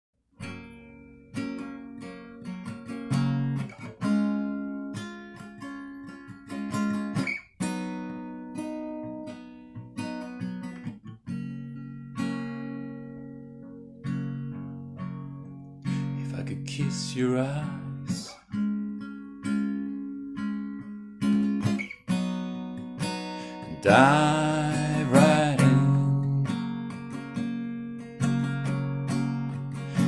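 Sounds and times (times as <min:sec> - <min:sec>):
acoustic guitar strumming: 0:00.4 - 0:30.0.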